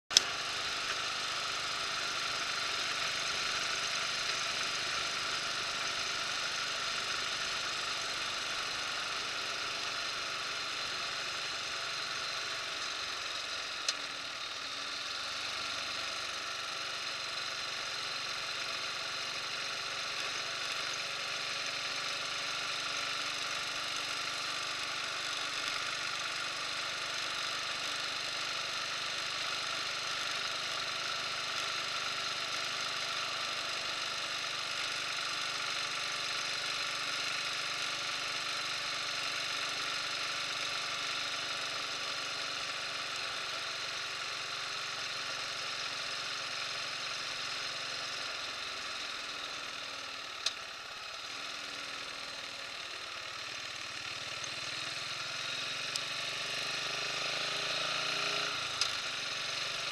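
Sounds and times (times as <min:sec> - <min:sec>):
motorcycle engine running: 0:00.1 - 0:59.9.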